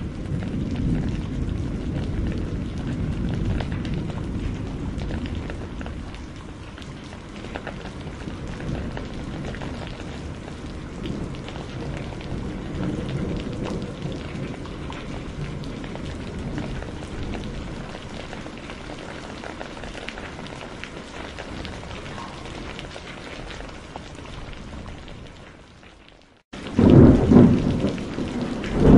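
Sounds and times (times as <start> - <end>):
low rolling thunder: 0.0 - 25.4, 26.6 - 28.9
steady rain: 0.0 - 28.9.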